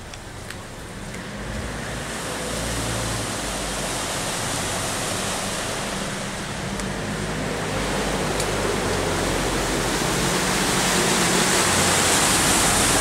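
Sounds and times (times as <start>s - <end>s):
floodwater rushing hiss: 0.3s - 13.0s.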